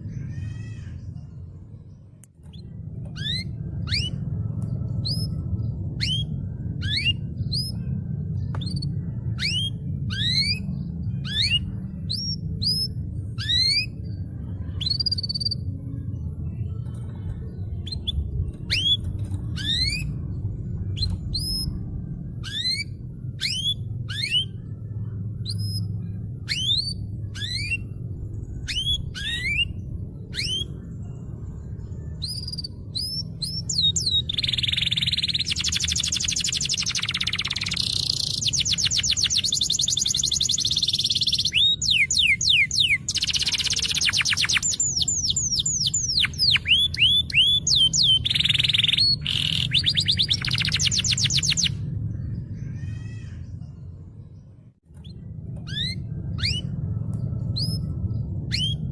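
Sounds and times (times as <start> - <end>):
canary singing: 0.0 - 15.8, 16.5 - 53.7, 54.9 - 58.9.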